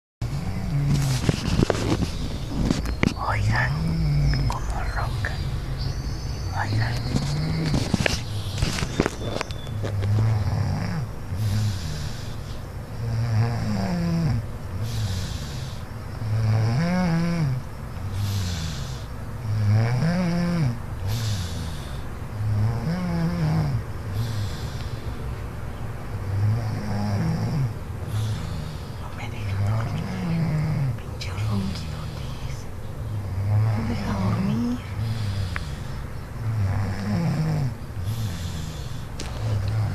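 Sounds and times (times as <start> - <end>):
rattling snoring: 0.2 - 39.9.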